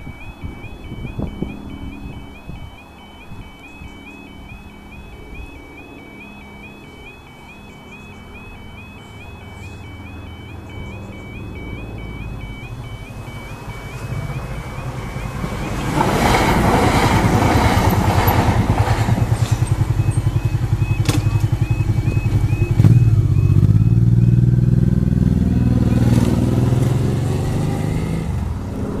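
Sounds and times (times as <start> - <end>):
level crossing two-tone alarm: 0.0 - 28.4
motorcycle engine running: 4.2 - 29.0.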